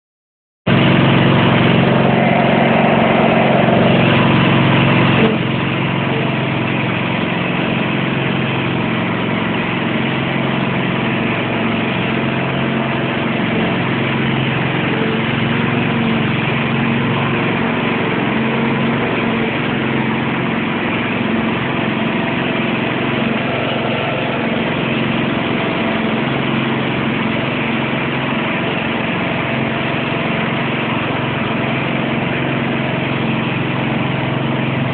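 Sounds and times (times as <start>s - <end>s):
garden tractor engine running: 0.7s - 34.9s.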